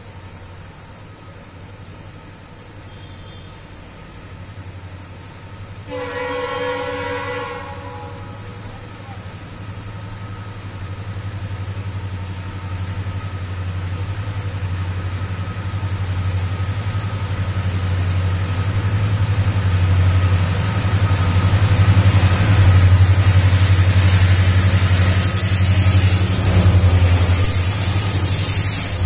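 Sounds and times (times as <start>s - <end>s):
locomotive engine drone: 0.0s - 29.0s
train rushing noise: 3.7s - 29.0s.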